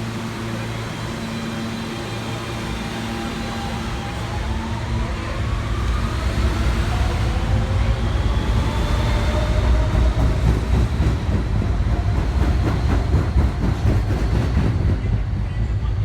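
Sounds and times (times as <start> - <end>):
traction motors whining: 0.0 - 13.6
subway train accelerating: 0.0 - 16.0.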